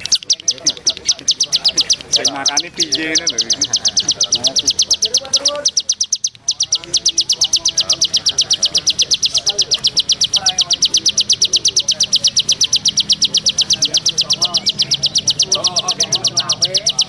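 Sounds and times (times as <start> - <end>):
faint voices talking: 0.0 - 17.0.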